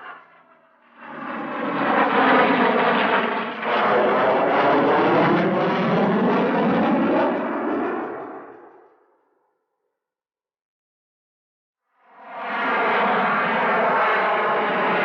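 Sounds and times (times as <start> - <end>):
jet aircraft passing: 0.0 - 9.2, 12.0 - 15.0.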